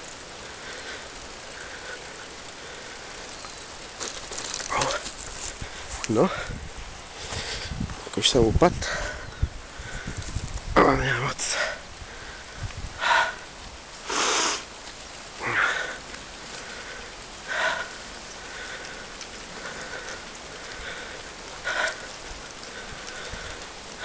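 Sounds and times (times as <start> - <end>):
cyclist breathing hard: 0.0 - 8.1, 8.7 - 10.8, 11.4 - 24.0.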